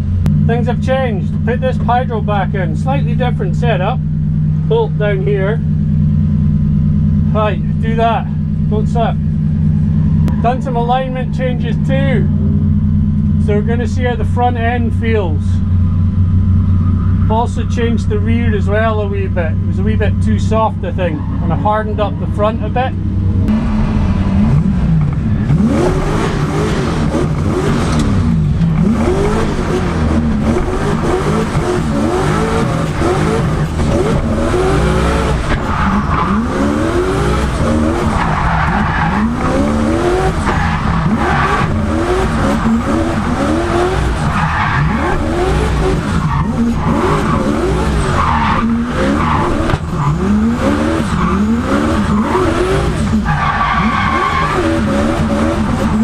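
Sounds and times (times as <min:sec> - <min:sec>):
car engine revving: 0:00.0 - 0:56.0
tyres skidding and squealing: 0:00.0 - 0:56.0.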